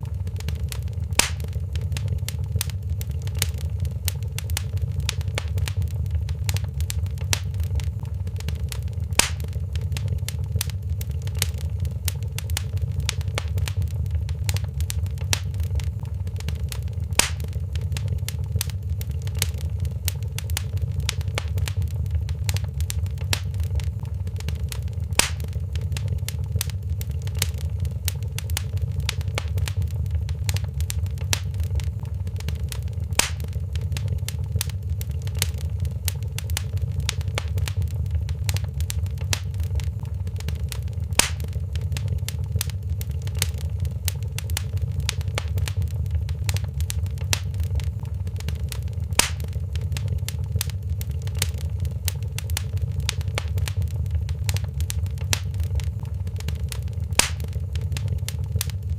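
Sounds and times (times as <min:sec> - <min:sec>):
fire crackling: 0:00.0 - 0:58.9
flames rumbling: 0:00.0 - 0:58.9
loud fire pops: 0:00.0 - 0:58.9.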